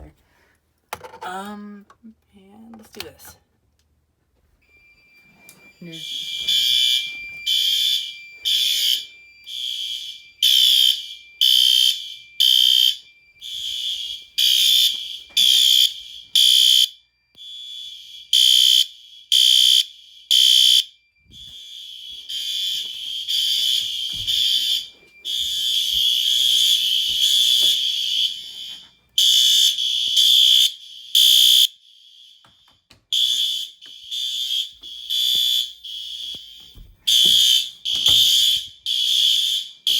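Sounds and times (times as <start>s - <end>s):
fire alarm horns pulsing: 4.6s - 39.9s.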